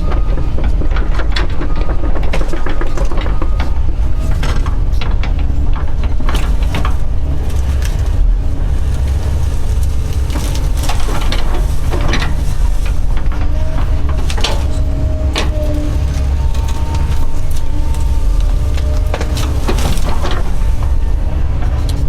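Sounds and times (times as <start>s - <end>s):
excavator diesel engine running: 0.0s - 22.0s
wood cracking and snapping: 0.2s - 22.0s.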